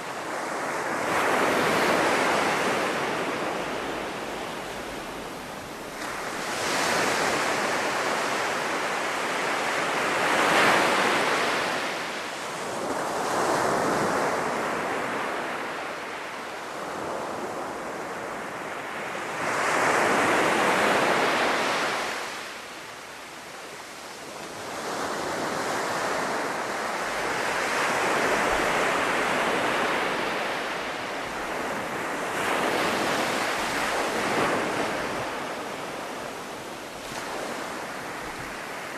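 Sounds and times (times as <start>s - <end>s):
sea surf breaking on beach: 0.0s - 38.9s
wind: 0.0s - 38.9s.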